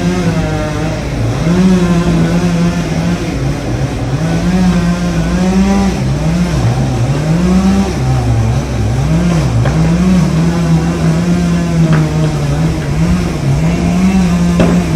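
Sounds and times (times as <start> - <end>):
chainsaw engine revving: 0.0 - 14.9.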